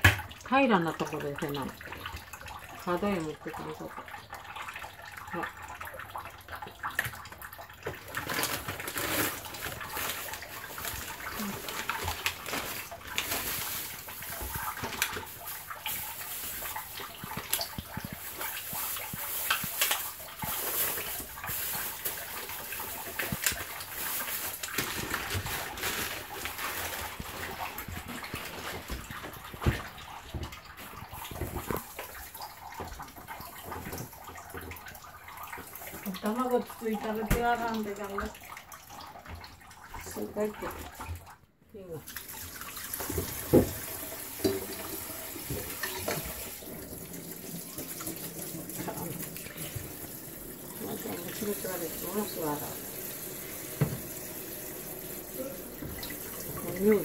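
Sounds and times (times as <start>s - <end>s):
water splashing: 0.0s - 57.0s.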